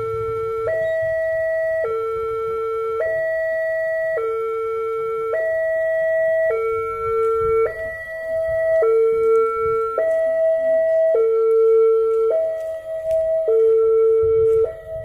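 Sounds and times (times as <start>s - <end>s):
two-tone level crossing alarm: 0.0s - 15.0s.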